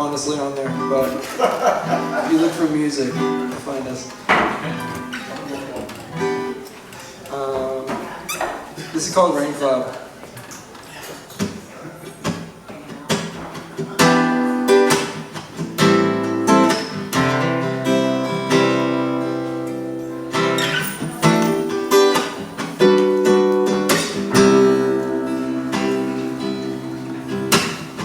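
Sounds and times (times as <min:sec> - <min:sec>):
acoustic guitar strumming chords: 0:00.0 - 0:06.8, 0:12.2 - 0:28.0.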